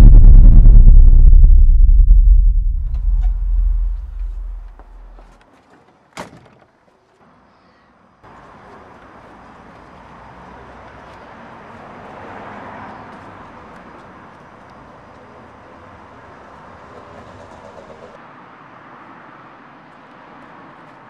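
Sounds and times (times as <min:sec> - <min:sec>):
street traffic noise: 0:04.0 - 0:21.0.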